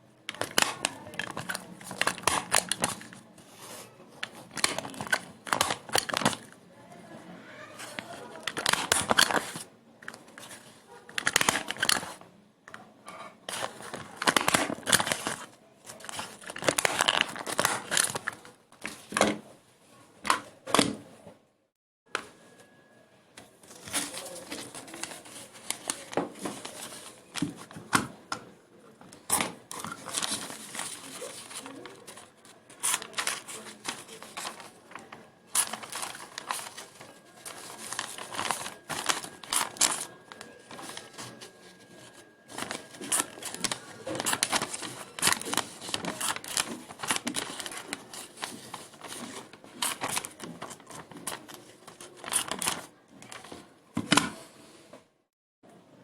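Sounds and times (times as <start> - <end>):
plastic or paper crinkling: 0.3 - 6.6, 7.8 - 12.2, 13.1 - 19.3, 23.6 - 28.0, 29.2 - 53.7.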